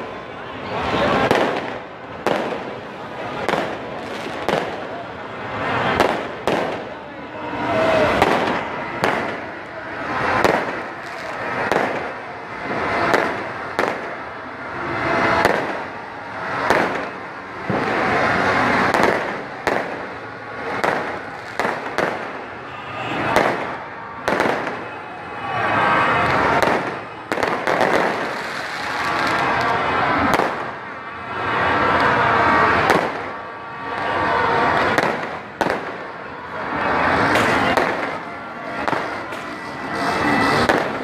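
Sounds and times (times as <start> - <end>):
fireworks bangs: 0.0 - 41.0
rush of fireworks noise: 0.0 - 41.0.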